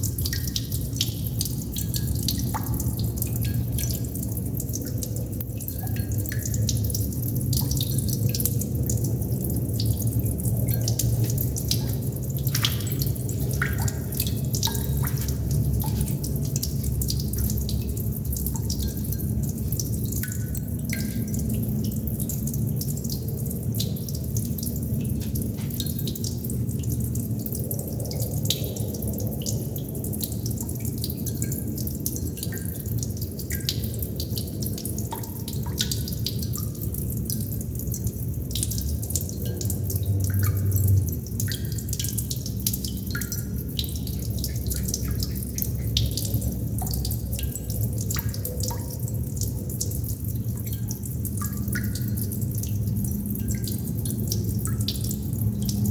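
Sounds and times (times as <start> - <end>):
low water rumble: 0.0 - 55.9
water droplets dripping: 0.0 - 55.9.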